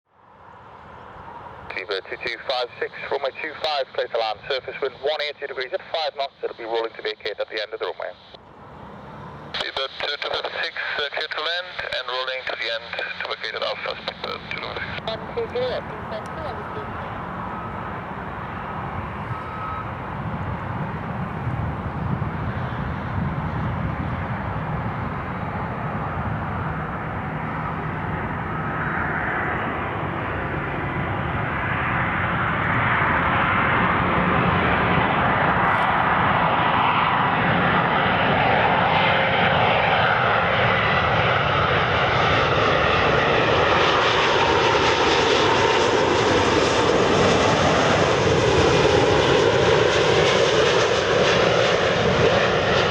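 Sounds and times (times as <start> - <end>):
jet airliner engine noise: 0.1 - 52.9.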